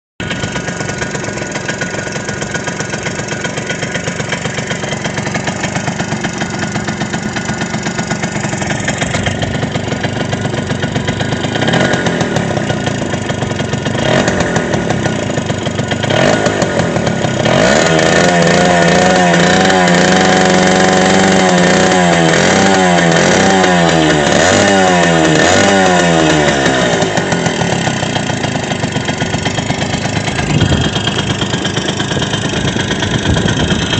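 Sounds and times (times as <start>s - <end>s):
moped engine revving: 0.2s - 33.9s.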